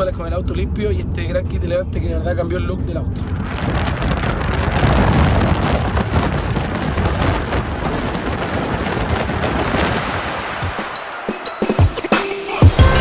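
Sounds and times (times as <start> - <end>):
wind buffeting a microphone: 0.0 - 11.2
car road and tyre noise: 0.0 - 13.0.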